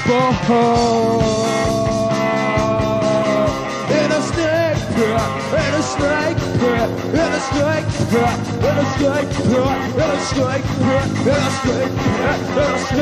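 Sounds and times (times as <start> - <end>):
lead guitar bending notes: 0.0 - 13.0
punk rock band playing: 0.0 - 13.0.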